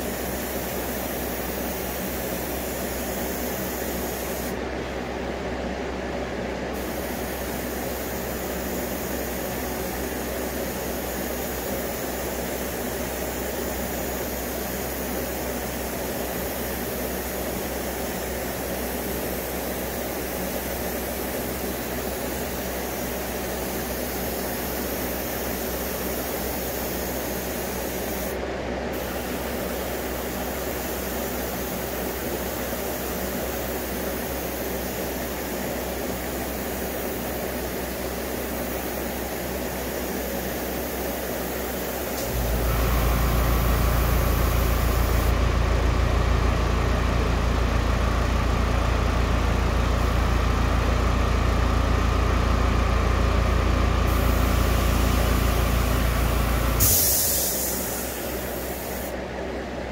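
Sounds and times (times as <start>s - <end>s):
airbrush hissing: 0.0s - 4.6s, 6.8s - 45.4s, 54.1s - 59.2s.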